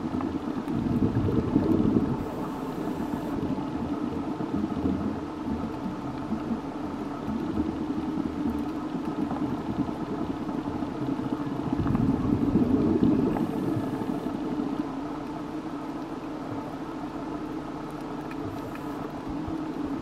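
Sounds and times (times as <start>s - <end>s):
low underwater rumble: 0.0s - 20.0s.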